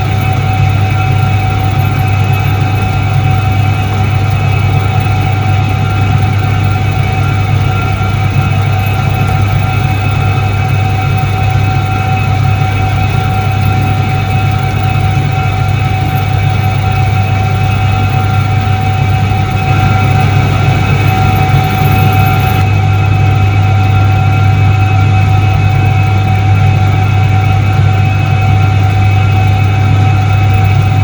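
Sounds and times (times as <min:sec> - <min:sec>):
washing machine humming: 0:00.0 - 0:31.0.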